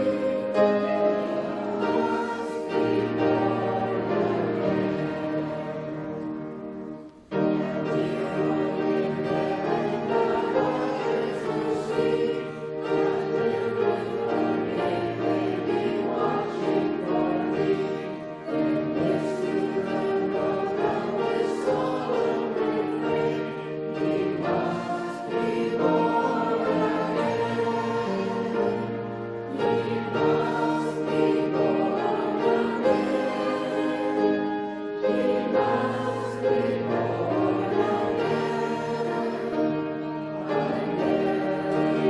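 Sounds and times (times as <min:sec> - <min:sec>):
choir singing with accompaniment: 0:00.0 - 0:42.0.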